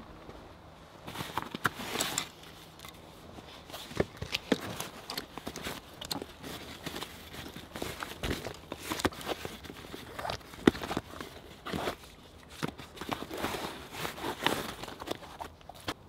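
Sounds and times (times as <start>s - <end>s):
buckles and gear clicking and knocking: 1.0s - 16.0s
fabric rustling: 1.0s - 16.0s.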